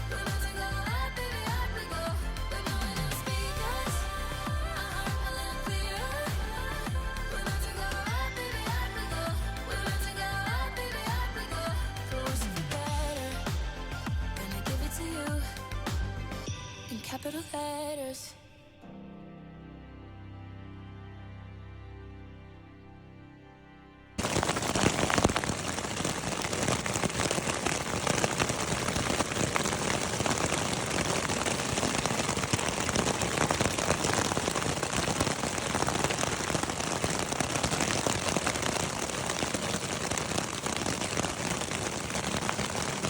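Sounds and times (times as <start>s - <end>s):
dense rain-like patter: 0.0s - 16.4s, 24.2s - 43.0s.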